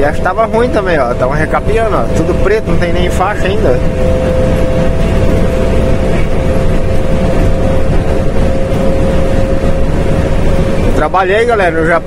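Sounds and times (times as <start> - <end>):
constant whine: 0.0 - 12.0
road rumble: 0.0 - 12.0
truck engine drone: 0.0 - 12.0.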